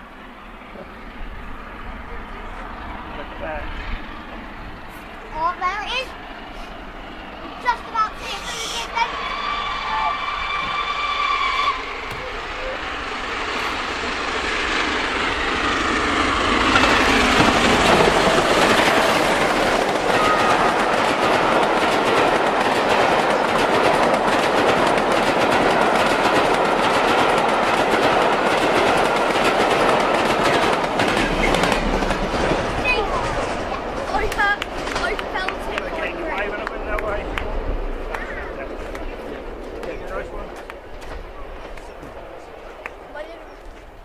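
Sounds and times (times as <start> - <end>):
train wheels running over rails: 0.0 - 44.0.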